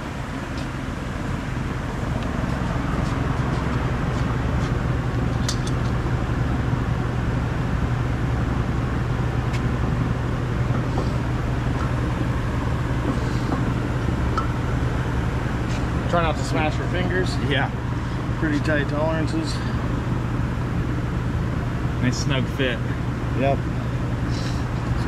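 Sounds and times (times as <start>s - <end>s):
shop machinery humming: 0.0s - 25.0s.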